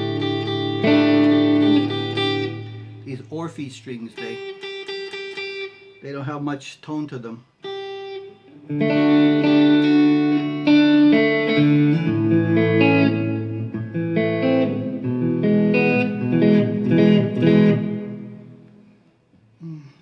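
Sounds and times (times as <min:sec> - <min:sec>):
electric guitar chords and notes: 0:00.0 - 0:06.0, 0:07.6 - 0:19.4.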